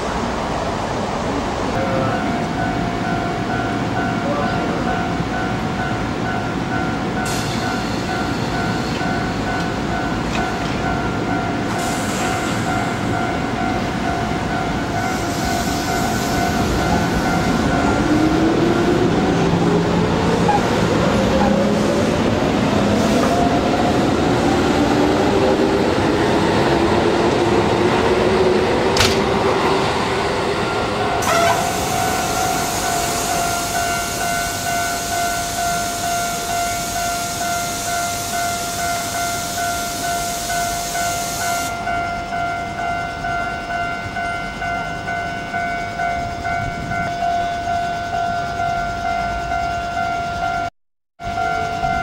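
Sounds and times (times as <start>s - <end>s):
level crossing alarm ringing: 1.8s - 52.0s.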